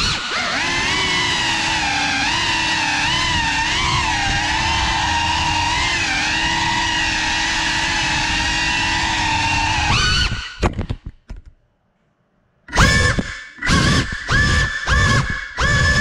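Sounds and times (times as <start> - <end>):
drone motors whining: 0.0 - 10.7, 12.7 - 16.0.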